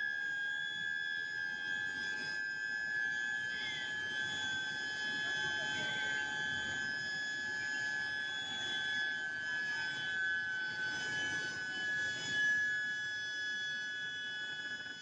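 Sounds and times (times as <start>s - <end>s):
high-pitched heater whine: 0.0s - 15.0s.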